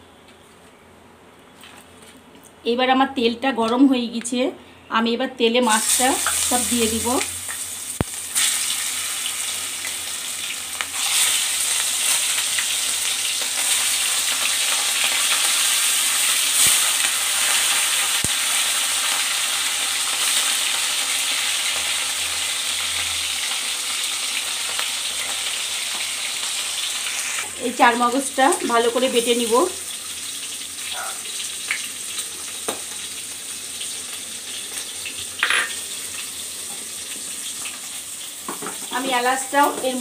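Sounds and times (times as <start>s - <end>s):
fish sizzling in hot oil: 5.6s - 40.0s.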